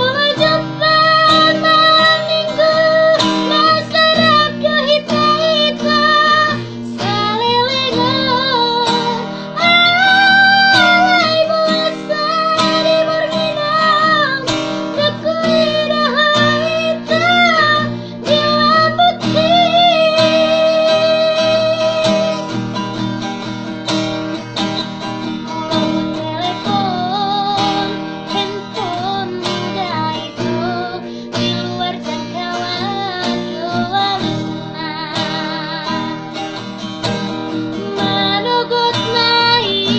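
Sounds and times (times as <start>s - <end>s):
woman singing with vibrato: 0.0s - 22.6s, 25.2s - 39.9s
strummed acoustic guitar: 0.0s - 39.9s.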